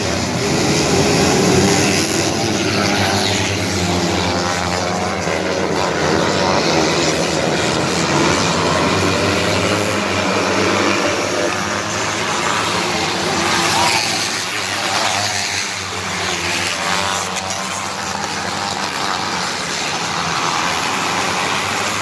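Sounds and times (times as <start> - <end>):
race car engines running hard: 0.0 - 22.0.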